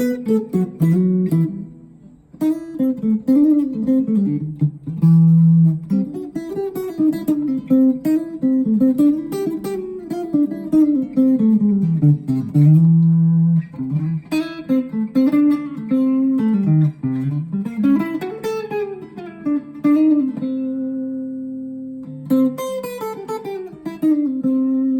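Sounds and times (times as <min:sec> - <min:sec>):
electric guitar melody: 0:00.0 - 0:24.9.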